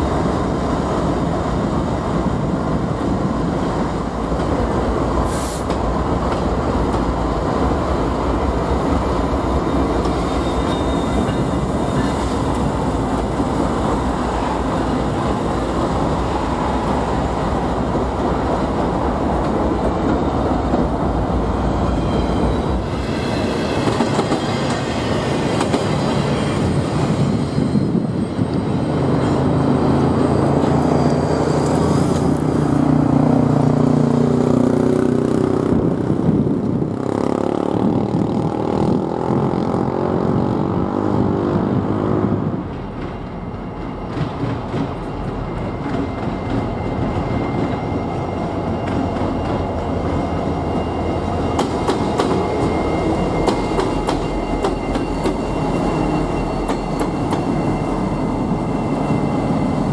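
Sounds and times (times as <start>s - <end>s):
diesel train passing: 0.0s - 59.9s
freight train rumbling past: 0.0s - 59.9s.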